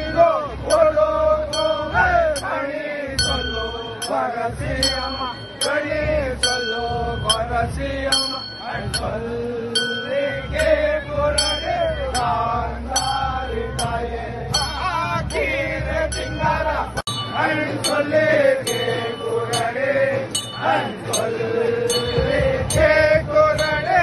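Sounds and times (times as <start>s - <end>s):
man singing: 0.0s - 24.0s
metallic ringing strikes: 0.0s - 24.0s.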